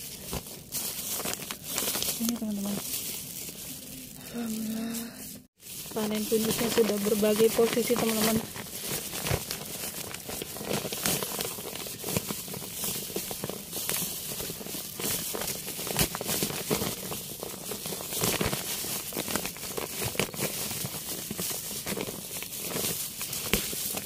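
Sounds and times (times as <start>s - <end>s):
hand digging through dry soil: 0.0s - 24.0s
plastic crackling and rustling: 0.0s - 24.0s.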